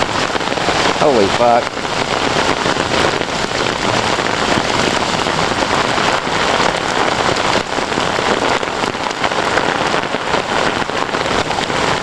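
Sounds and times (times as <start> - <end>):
heavy rain: 0.0 - 12.0
hailstones clattering on hard surfaces: 0.1 - 12.0.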